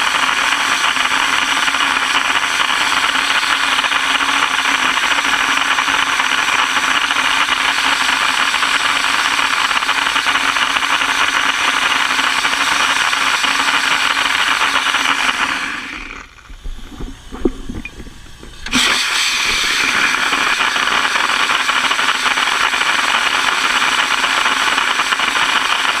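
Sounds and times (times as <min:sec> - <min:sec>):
dry ice blasting hiss: 0:00.0 - 0:16.3, 0:18.6 - 0:26.0.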